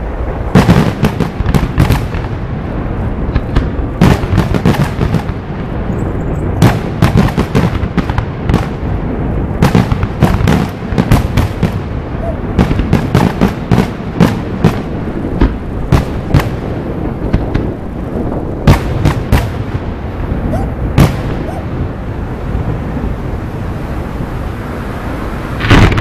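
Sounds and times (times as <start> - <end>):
low rumble of fireworks: 0.0 - 26.0.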